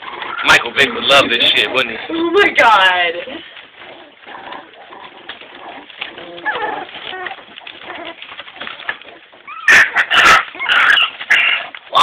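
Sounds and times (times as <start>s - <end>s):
puppies whimpering and squeaking: 0.0s - 12.0s.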